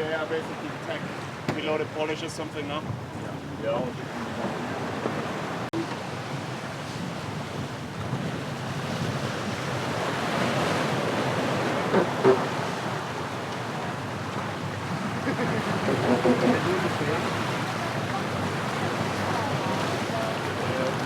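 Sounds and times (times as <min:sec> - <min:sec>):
wind and water rushing past yacht: 0:00.0 - 0:21.0.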